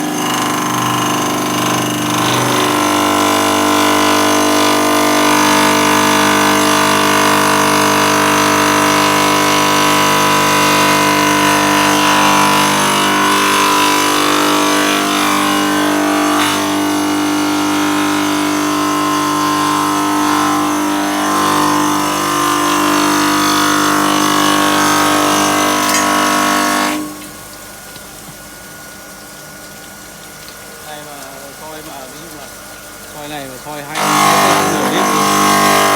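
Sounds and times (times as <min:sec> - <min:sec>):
stone-cutting machine whine: 0:00.0 - 0:27.2, 0:33.2 - 0:35.9.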